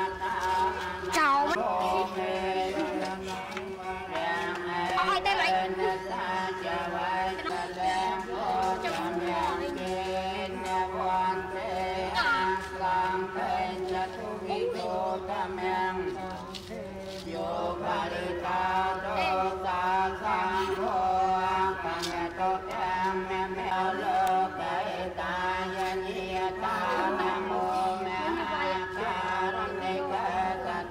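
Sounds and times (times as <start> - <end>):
voices chanting prayers: 0.0 - 30.9.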